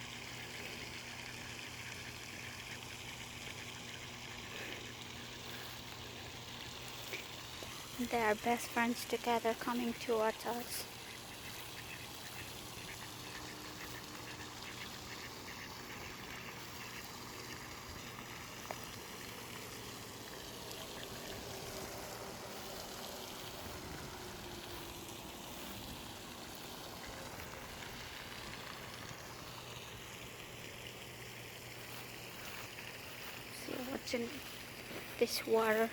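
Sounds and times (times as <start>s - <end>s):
water trickling and lapping: 0.0s - 35.9s.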